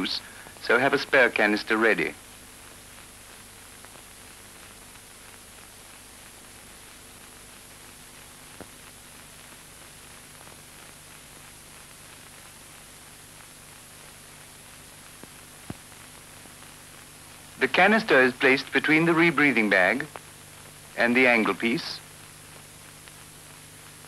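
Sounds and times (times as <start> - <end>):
faint low hum: 0.0 - 24.0
film soundtrack hiss: 0.0 - 24.0
light crackle: 0.0 - 24.0.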